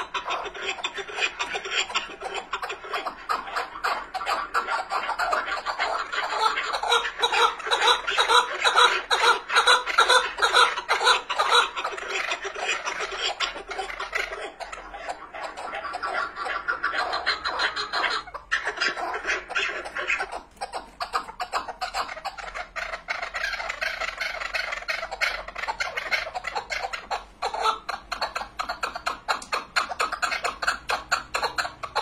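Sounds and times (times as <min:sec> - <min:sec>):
partridge chattering calls: 0:00.0 - 0:32.0.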